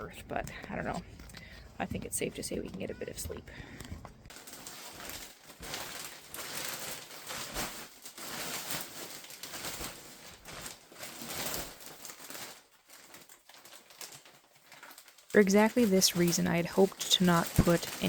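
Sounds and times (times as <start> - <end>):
rustling and crinkling: 0.0 - 18.0.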